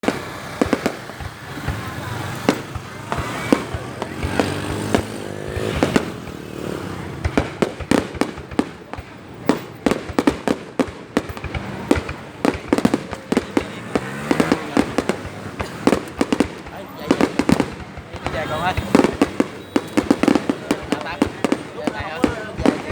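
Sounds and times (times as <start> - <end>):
fireworks bangs: 0.0 - 22.9
fireworks crackling pops: 0.0 - 22.9.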